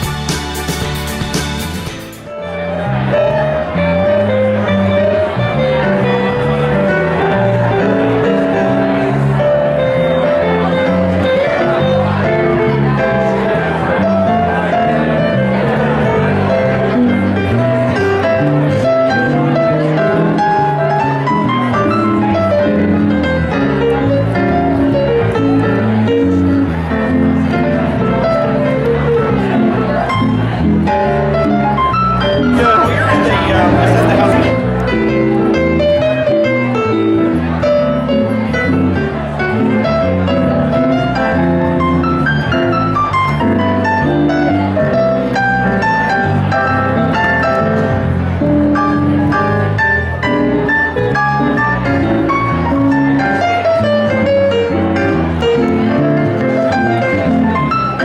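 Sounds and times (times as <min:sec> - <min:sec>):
bass line: 0:00.0 - 0:58.0
piano melody over chords: 0:00.0 - 0:58.0.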